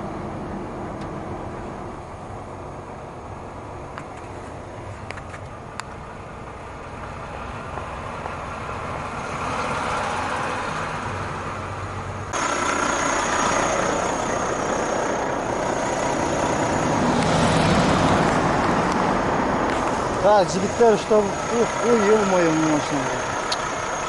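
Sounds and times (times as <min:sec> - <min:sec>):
truck engine idling: 0:00.0 - 0:09.6, 0:11.0 - 0:24.0.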